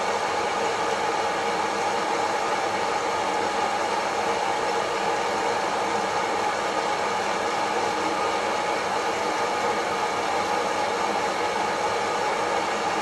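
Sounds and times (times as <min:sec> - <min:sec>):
coffee roaster blower whooshing: 0:00.0 - 0:13.0.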